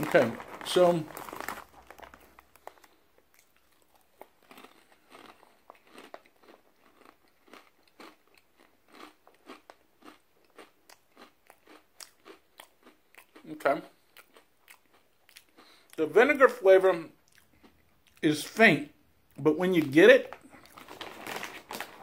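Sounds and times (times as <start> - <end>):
person chewing crunchy chips: 0.0 - 16.1, 17.2 - 18.3, 19.8 - 22.0.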